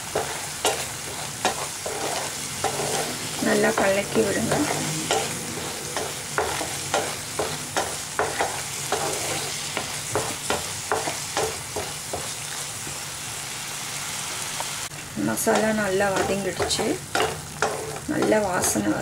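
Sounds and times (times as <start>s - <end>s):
wooden spatula scraping a pan: 0.0s - 12.6s, 15.6s - 19.0s
spice paste sizzling in a pan: 0.0s - 19.0s.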